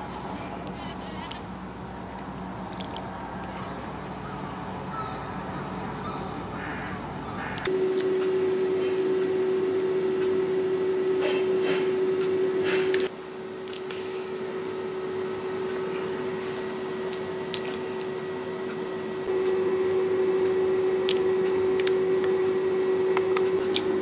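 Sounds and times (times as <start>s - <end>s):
machine hum: 0.0s - 24.0s.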